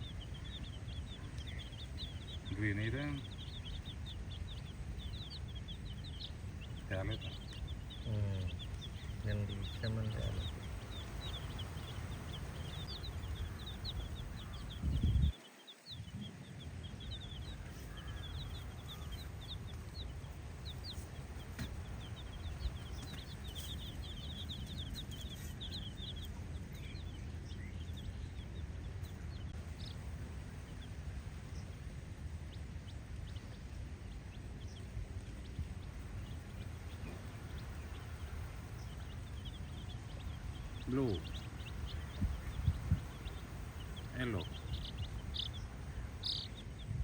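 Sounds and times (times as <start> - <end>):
baby chicks peeping: 0.0 - 47.0.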